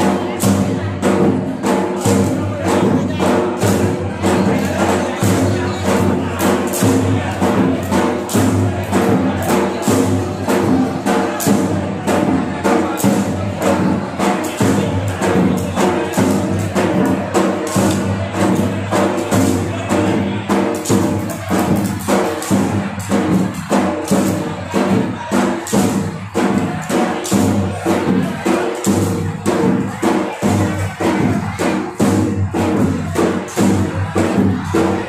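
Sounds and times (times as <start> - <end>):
jingling hand percussion: 0.0 - 35.0.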